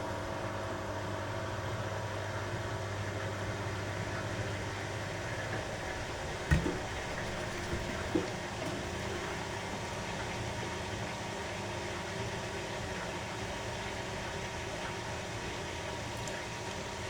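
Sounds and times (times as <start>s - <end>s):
washing machine motor hum: 0.2s - 17.0s.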